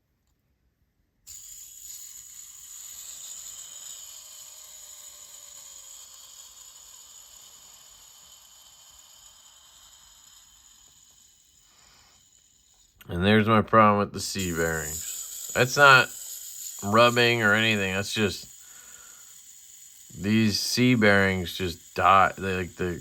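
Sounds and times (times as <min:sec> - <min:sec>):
fidget spinner whirring: 0:01.3 - 0:13.5, 0:14.2 - 0:23.0.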